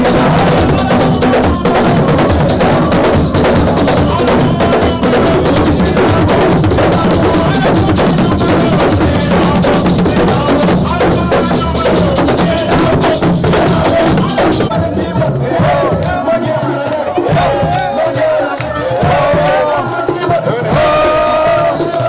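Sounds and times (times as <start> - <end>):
loud drum-heavy music: 0.0 - 22.0.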